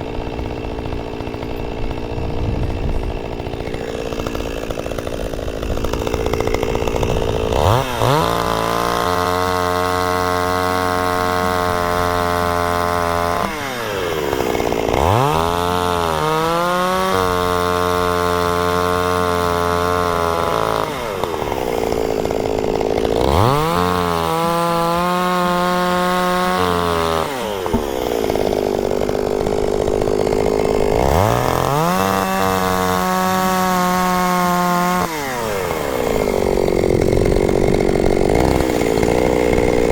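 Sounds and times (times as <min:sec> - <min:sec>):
chainsaw revving and cutting logs: 0:00.0 - 0:39.9.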